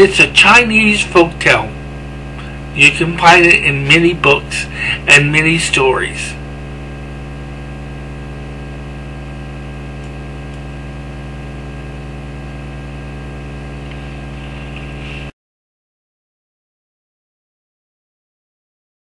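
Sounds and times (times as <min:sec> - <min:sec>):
low hum with overtones: 0:00.0 - 0:15.3.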